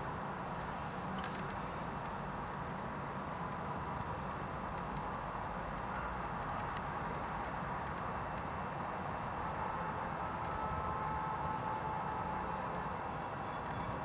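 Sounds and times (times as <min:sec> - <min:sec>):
low outdoor hum: 0:00.0 - 0:14.0
faint ticks: 0:00.6 - 0:08.6, 0:09.3 - 0:14.0.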